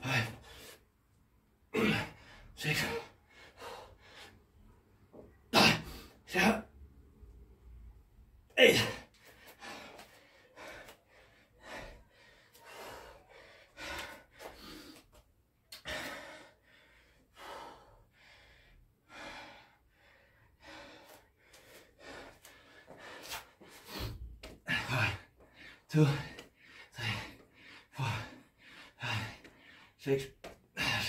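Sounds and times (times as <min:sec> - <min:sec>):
man panting: 0:00.0 - 0:00.9, 0:01.7 - 0:04.6, 0:08.5 - 0:31.0.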